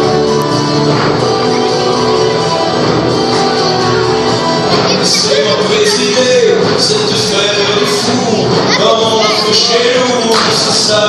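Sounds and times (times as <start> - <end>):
musical theatre instrumental music: 0.0 - 11.0.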